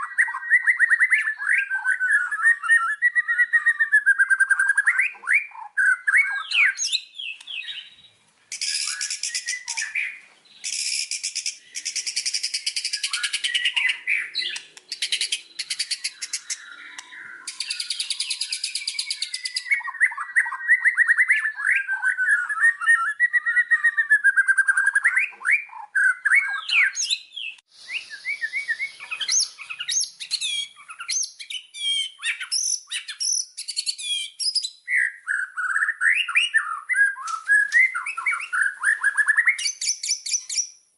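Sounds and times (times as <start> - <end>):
bird singing trills and whistles: 0.0 - 40.8.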